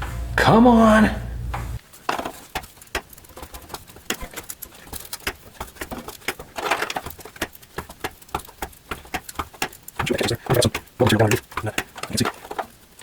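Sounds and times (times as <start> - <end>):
scraping rustle: 1.7 - 13.0.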